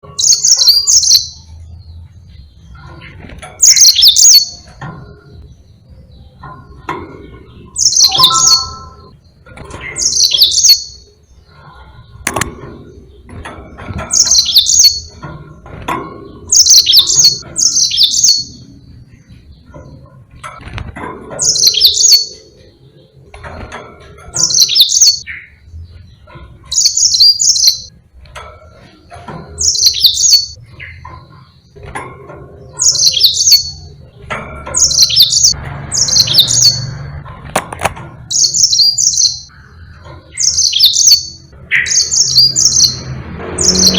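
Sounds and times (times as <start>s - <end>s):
canary singing: 0.0s - 37.5s, 38.1s - 43.9s.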